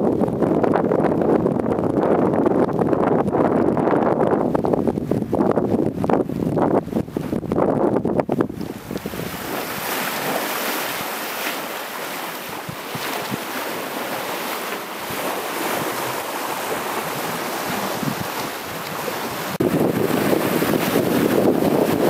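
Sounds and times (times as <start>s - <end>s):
water rushing past a hull: 0.0s - 22.0s
wind on the microphone: 0.0s - 22.0s.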